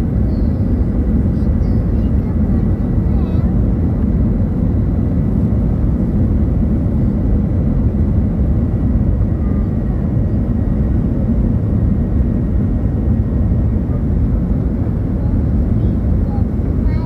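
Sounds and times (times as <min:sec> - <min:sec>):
jet engines and airflow drone: 0:00.0 - 0:17.0.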